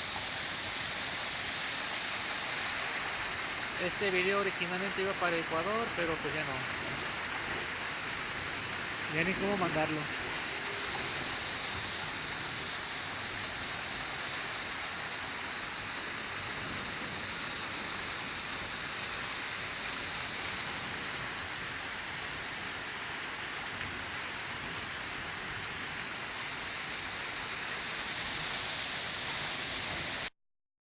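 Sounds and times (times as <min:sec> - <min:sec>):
heavy rain pouring: 0:00.0 - 0:30.3.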